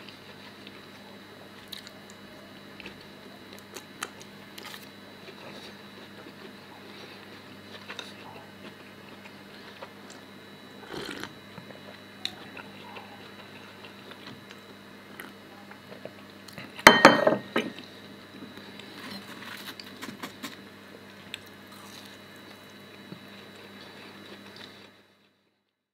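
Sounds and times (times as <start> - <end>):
person chewing: 1.6 - 2.2, 2.8 - 16.8, 18.5 - 25.0.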